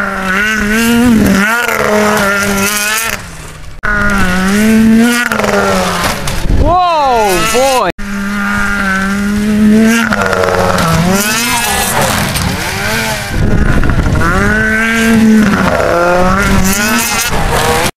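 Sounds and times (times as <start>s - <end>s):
snowmobile engines revving: 0.0s - 17.9s.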